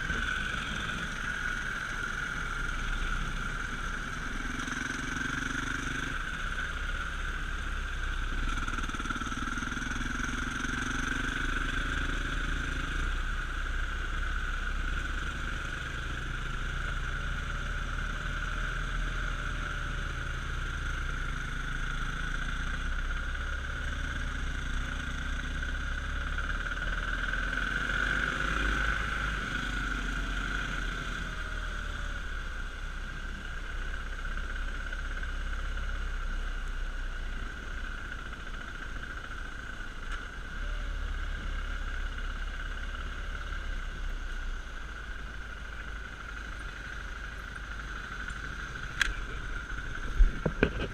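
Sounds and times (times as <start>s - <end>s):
dirt bike engine running: 0.0s - 50.9s.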